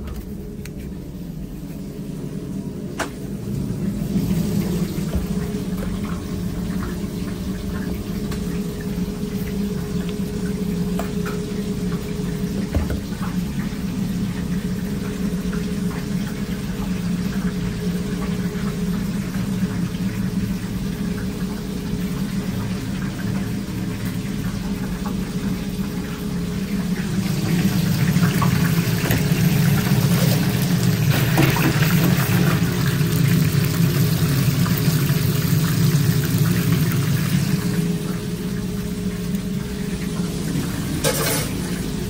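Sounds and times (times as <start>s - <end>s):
kitchen equipment hum: 0.0s - 42.0s.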